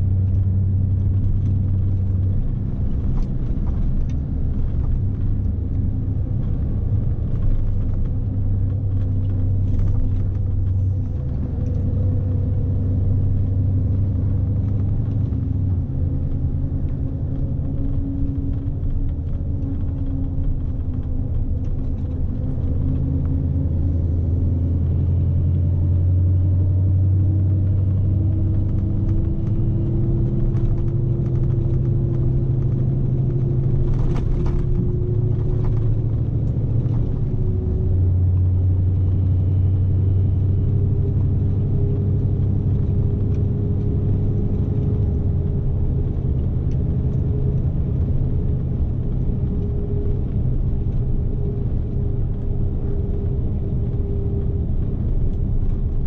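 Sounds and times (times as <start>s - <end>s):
road rumble: 0.0s - 56.0s
truck diesel engine drone: 0.0s - 56.0s.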